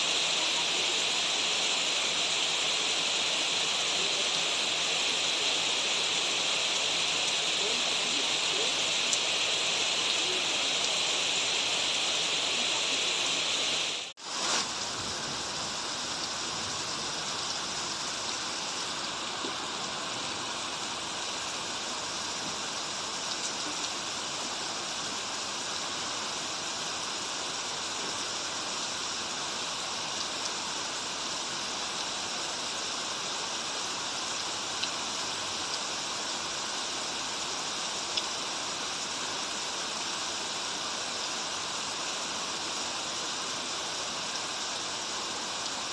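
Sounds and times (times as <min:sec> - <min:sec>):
rain hissing: 0:00.0 - 0:45.9
running water: 0:00.0 - 0:45.9.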